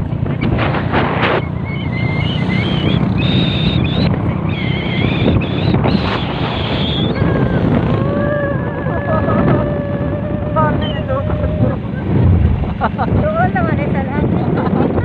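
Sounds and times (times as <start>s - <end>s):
vehicle engine rumble: 0.0s - 15.0s
wind noise: 0.0s - 15.0s.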